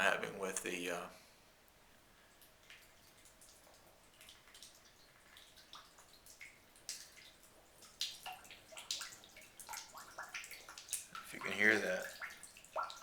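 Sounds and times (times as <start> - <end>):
urine splashing into toilet water: 2.3 - 13.0.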